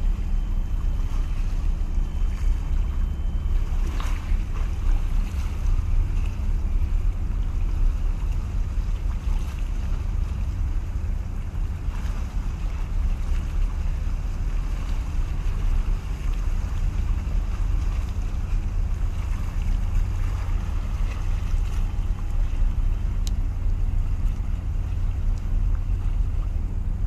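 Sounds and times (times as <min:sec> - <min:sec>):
sea washing against breakwater: 0:00.0 - 0:27.0.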